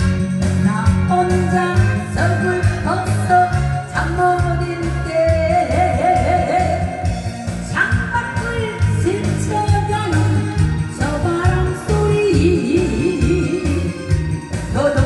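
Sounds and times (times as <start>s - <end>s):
backing track with steady beat: 0.0s - 15.0s
woman singing into microphone: 0.0s - 15.0s.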